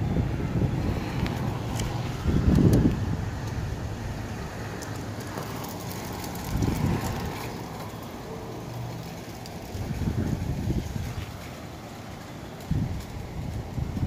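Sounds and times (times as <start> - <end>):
gusty wind blowing: 0.0 - 8.9, 9.6 - 14.0.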